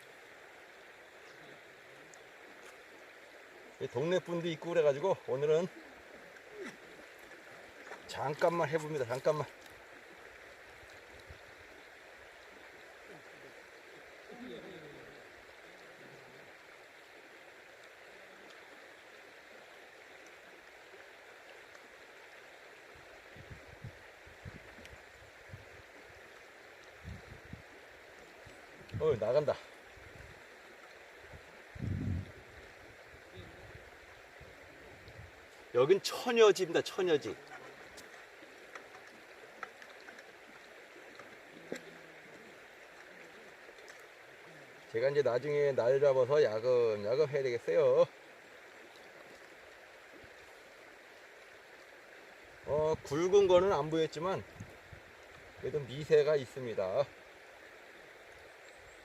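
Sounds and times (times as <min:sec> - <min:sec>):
flowing river water: 0:00.0 - 0:59.0.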